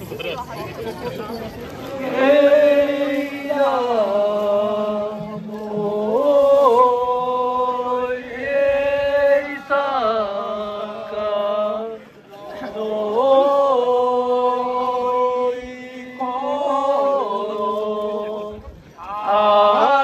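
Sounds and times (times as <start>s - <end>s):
man singing a chant: 2.0s - 12.0s, 12.7s - 20.0s.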